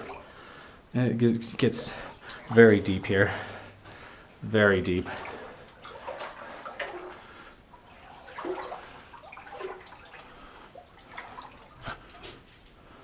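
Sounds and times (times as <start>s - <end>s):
person wading through water: 0.0s - 0.8s, 1.6s - 12.3s
water sloshing and splashing: 0.0s - 13.0s.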